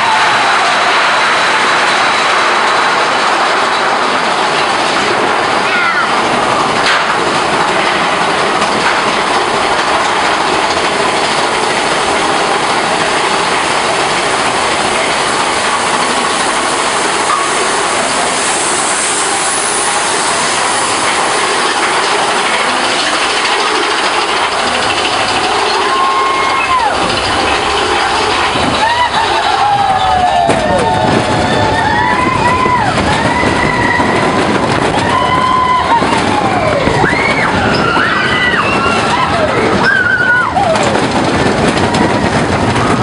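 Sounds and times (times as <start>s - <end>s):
lift chain clattering: 0.1s - 43.0s.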